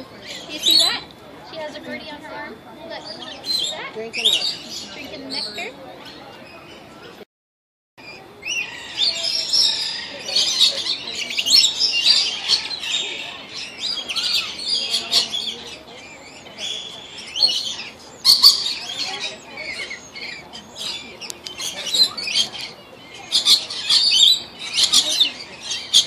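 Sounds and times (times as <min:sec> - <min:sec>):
flock of parrots chattering: 0:00.0 - 0:07.2, 0:08.0 - 0:26.0.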